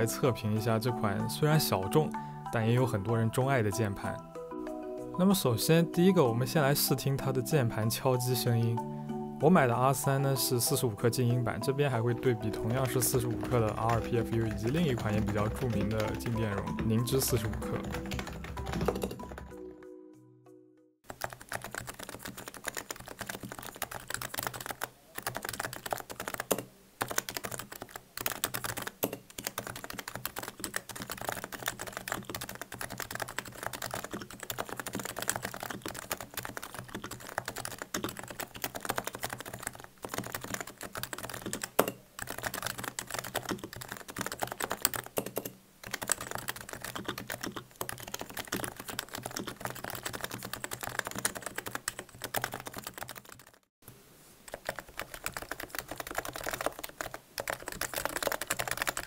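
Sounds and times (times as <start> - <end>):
keyboard typing: 0.0 - 19.8, 21.0 - 53.7, 54.5 - 59.0.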